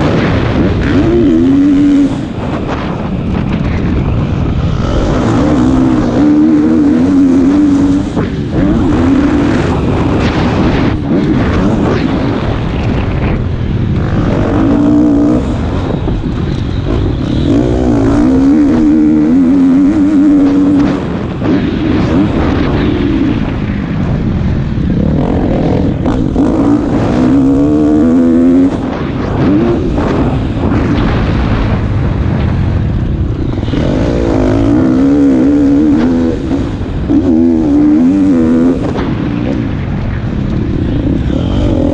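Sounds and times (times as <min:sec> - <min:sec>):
dense rushing noise: 0:00.0 - 0:41.9
motocross bike engine revving: 0:00.0 - 0:41.9.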